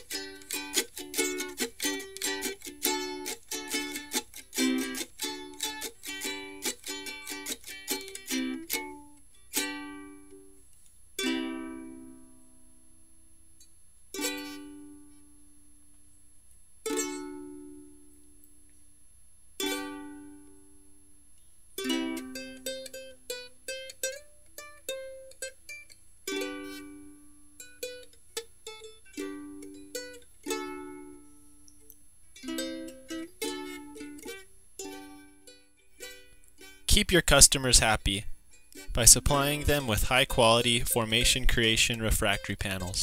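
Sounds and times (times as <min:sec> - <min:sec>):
plucked string music: 0:00.0 - 0:13.3, 0:14.1 - 0:15.4, 0:16.8 - 0:18.5, 0:19.6 - 0:21.0, 0:21.8 - 0:43.0.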